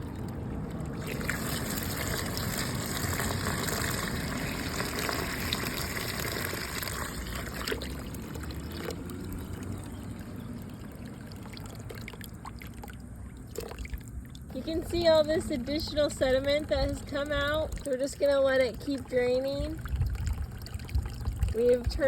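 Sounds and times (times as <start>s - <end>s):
water pouring into plastic tub: 0.0s - 22.0s.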